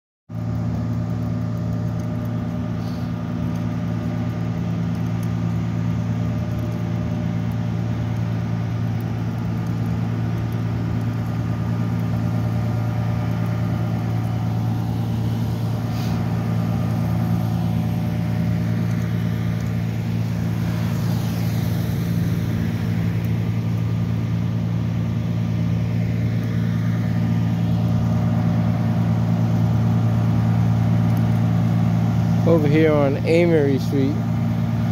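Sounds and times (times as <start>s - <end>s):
truck engine idling: 0.3s - 34.9s.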